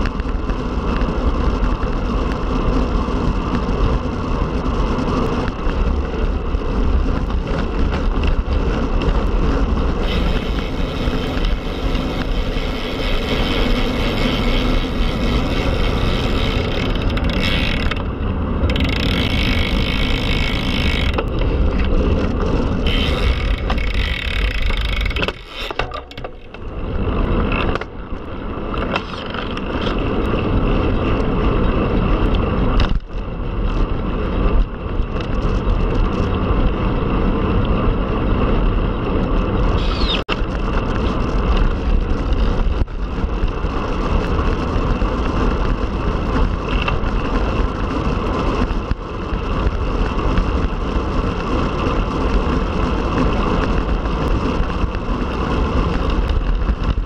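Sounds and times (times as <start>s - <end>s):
bicycle tyre and road noise: 0.0s - 57.0s
wind rushing over microphone: 0.0s - 57.0s.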